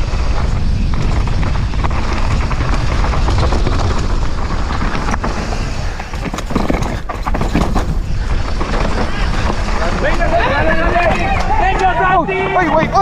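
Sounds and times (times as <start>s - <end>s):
mountain bike rattling over rocks: 0.0s - 13.0s
wind on microphone: 0.0s - 13.0s.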